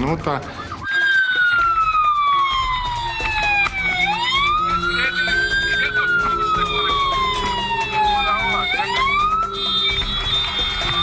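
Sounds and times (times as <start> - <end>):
fire engine siren wailing: 0.6 - 11.0.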